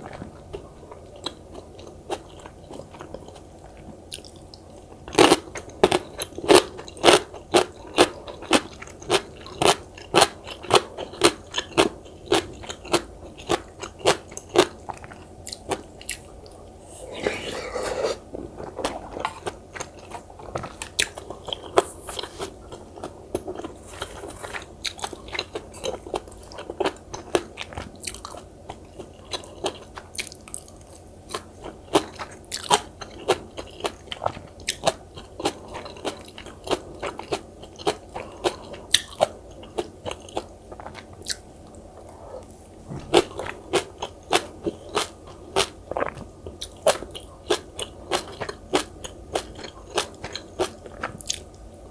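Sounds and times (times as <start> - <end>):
person chewing: 4.1 - 51.6.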